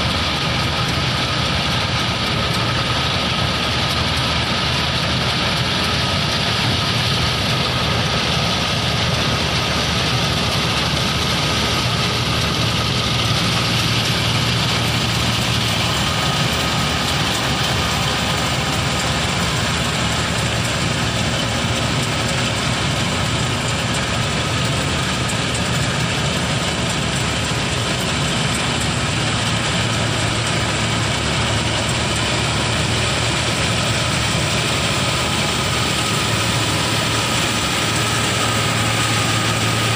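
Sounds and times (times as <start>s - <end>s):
combine harvester engine and threshing: 0.0s - 39.9s.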